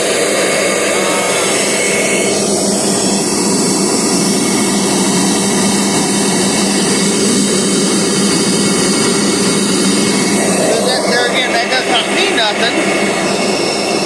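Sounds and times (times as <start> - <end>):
vacuum cleaner motor whir: 0.0 - 14.0.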